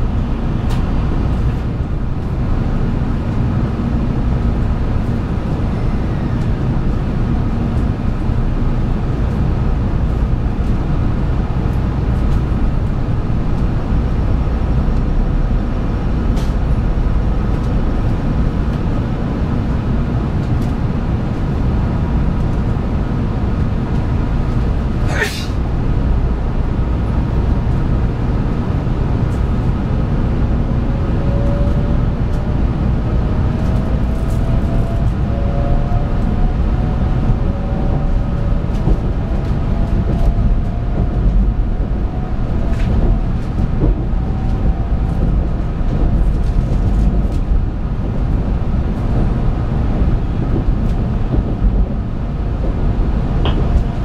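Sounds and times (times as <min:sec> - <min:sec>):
low train running rumble: 0:00.0 - 0:54.0.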